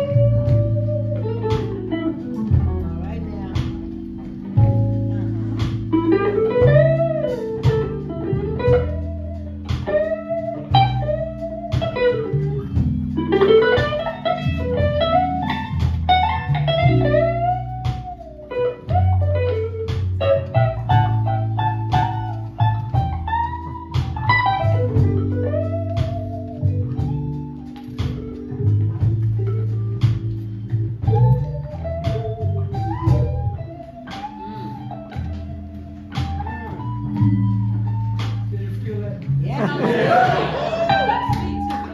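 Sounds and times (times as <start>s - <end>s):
electric guitar solo: 0.0s - 38.5s, 39.2s - 41.9s
bass: 0.0s - 41.9s
held keyboard chords: 0.0s - 41.9s
steady beat: 0.0s - 41.9s.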